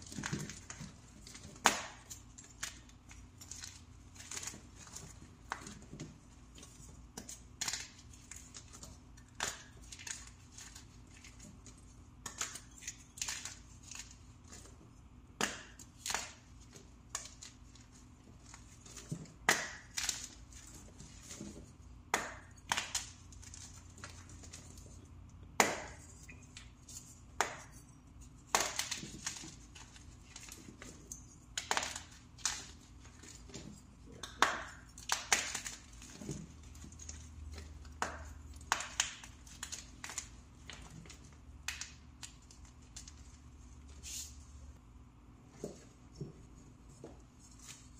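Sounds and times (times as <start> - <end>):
powder blocks crushed by hand: 0.0 - 24.9, 28.4 - 43.3.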